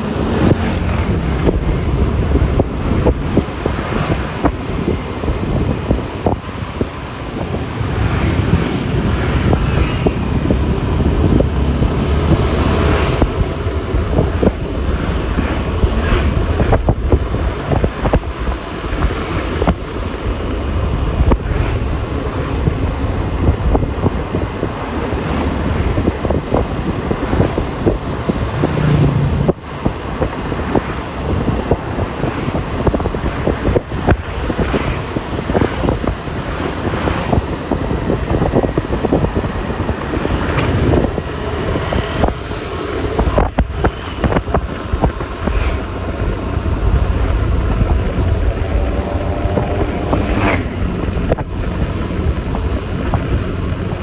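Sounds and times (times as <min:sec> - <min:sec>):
passing vehicles: 0:00.0 - 0:54.0
scooter engine: 0:00.0 - 0:54.0
wind buffeting microphone: 0:00.0 - 0:54.0.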